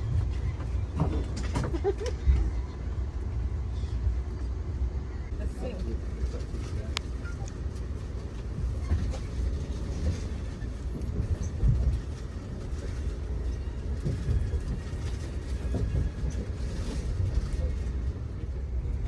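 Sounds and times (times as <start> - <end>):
train car rolling on rails: 0.0 - 3.6, 5.2 - 19.0.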